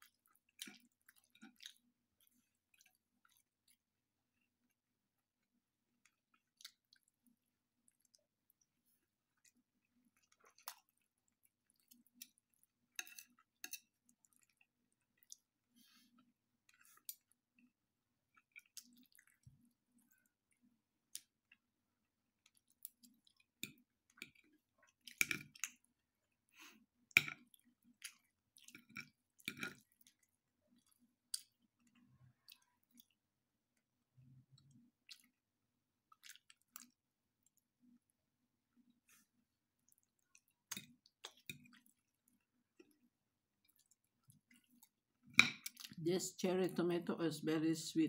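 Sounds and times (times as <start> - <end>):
chewing: 0.0 - 4.8, 5.4 - 38.1, 38.8 - 46.0.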